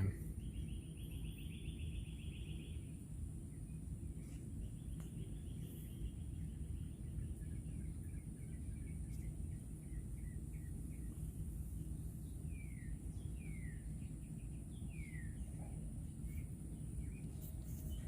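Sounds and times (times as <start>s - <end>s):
birds chirping: 0.0s - 18.0s
low ambient rumble: 0.0s - 18.0s.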